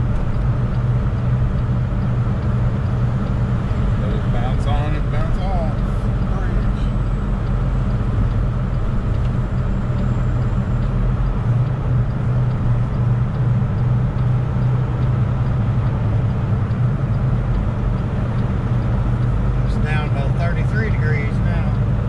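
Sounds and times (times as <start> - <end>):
truck diesel engine cruising: 0.0 - 22.0
tyre and road noise: 0.0 - 22.0.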